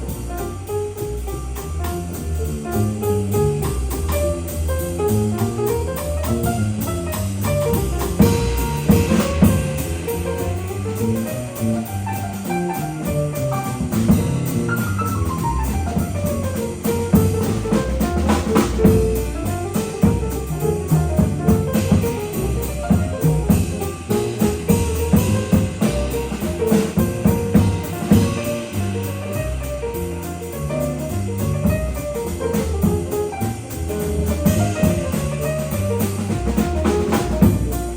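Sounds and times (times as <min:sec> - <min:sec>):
busy drums: 0:00.0 - 0:37.9
stepping bass line: 0:00.0 - 0:37.9
up-tempo jazz band playing: 0:00.0 - 0:37.9.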